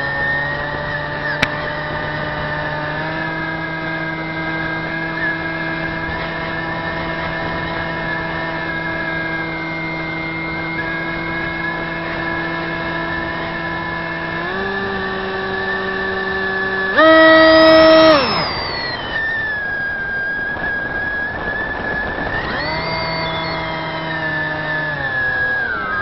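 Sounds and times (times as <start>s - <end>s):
electric motor and propeller droning: 0.0s - 26.0s.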